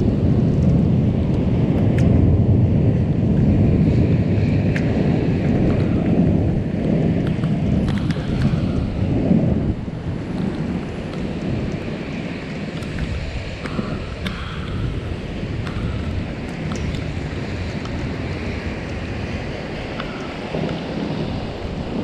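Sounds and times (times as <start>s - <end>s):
thunder rumbling: 0.0s - 22.0s
wind noise on microphone: 0.0s - 22.0s.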